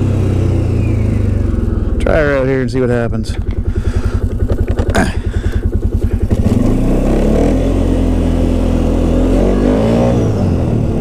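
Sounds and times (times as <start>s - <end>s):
atv engine: 0.0s - 11.0s.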